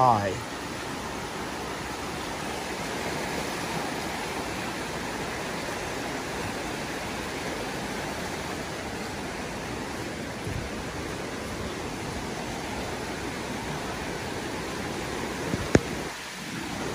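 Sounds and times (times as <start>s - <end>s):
flooded creek rushing water: 0.0s - 16.9s.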